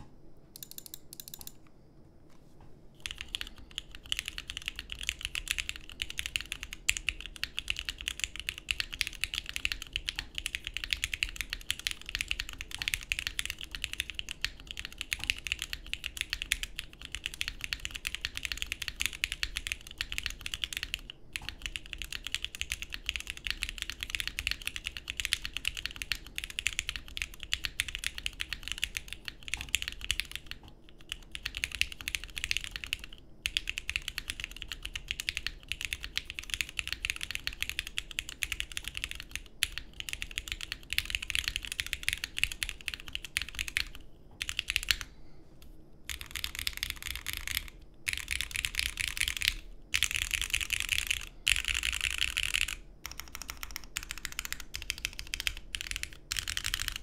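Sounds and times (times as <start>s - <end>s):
fast mechanical keyboard typing: 0.6s - 1.6s, 3.0s - 45.1s, 46.1s - 57.0s.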